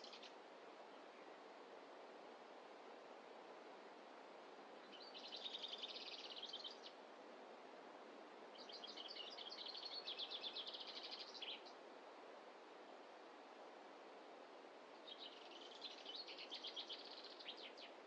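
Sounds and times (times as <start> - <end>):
faint background hiss: 0.0 - 18.0.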